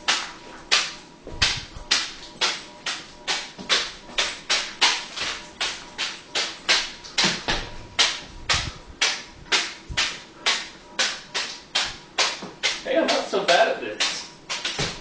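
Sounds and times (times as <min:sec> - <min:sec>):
hand slapping plastic pouch: 0:00.0 - 0:15.0.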